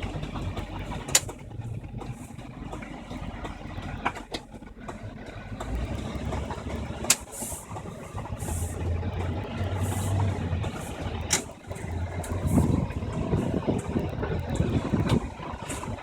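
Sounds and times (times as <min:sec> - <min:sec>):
truck engine rough drone: 0:00.0 - 0:16.0.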